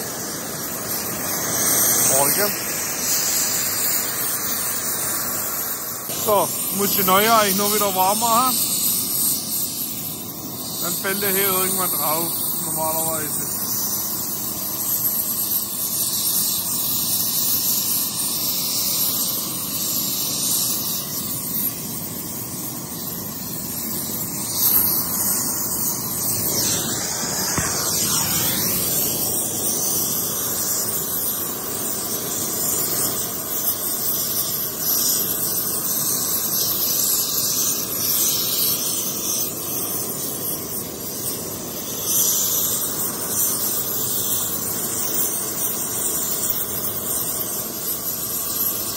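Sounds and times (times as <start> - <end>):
gas torch flame hissing: 0.0 - 48.9.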